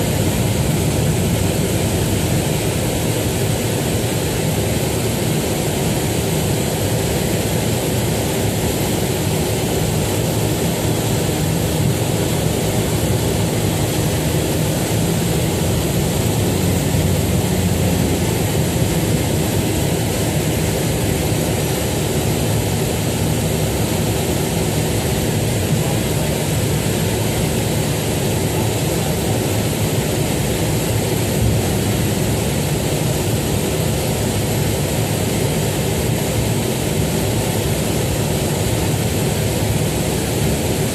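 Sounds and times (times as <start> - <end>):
propeller aircraft engine: 0.0 - 40.9.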